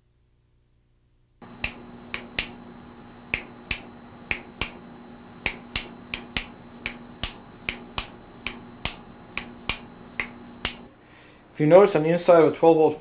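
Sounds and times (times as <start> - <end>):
steady low hum: 1.4 - 13.0.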